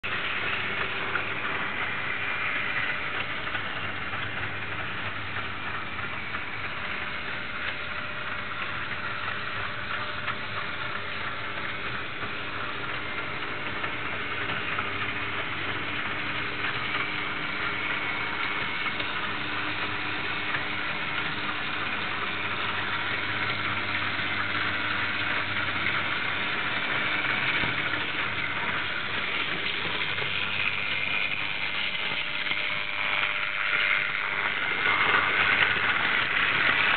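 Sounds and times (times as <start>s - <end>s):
model train whirring rattle: 0.0s - 36.9s.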